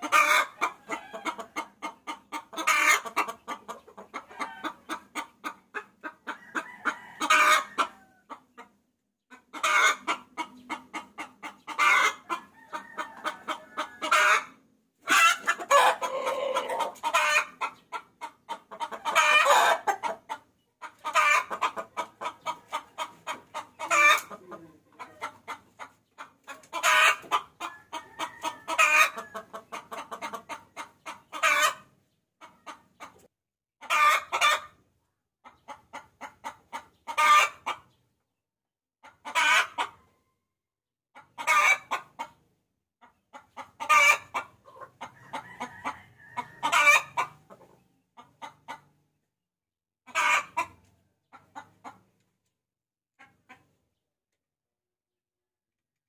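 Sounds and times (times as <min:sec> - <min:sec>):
hen cackling: 0:00.0 - 0:08.7, 0:09.3 - 0:33.2, 0:33.8 - 0:34.8, 0:35.5 - 0:37.8, 0:39.0 - 0:40.0, 0:41.2 - 0:42.4, 0:43.3 - 0:48.9, 0:50.1 - 0:52.0.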